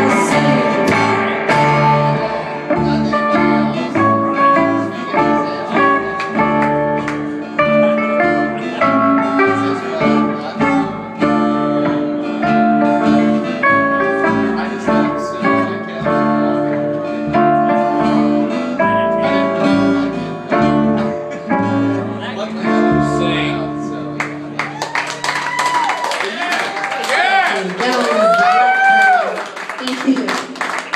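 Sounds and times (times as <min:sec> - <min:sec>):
guitar picking quick notes: 0:00.0 - 0:26.3.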